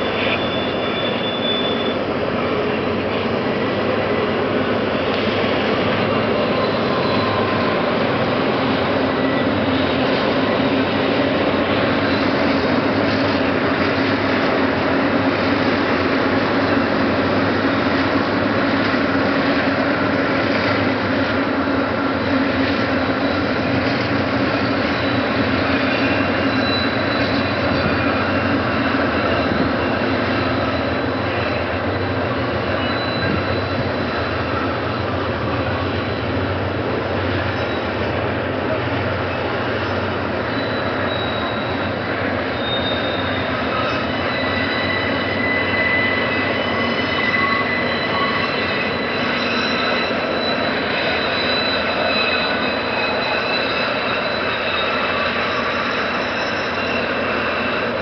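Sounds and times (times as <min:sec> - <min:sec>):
faint high wheel squeal: 0:00.0 - 0:58.0
freight wagons rumbling over rails: 0:00.0 - 0:58.0
locomotive engines humming: 0:00.0 - 0:58.0.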